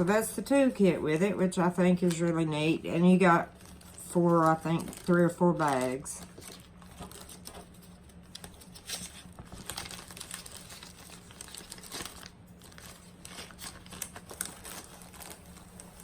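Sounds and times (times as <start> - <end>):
plastic packaging crinkling: 1.9 - 16.0.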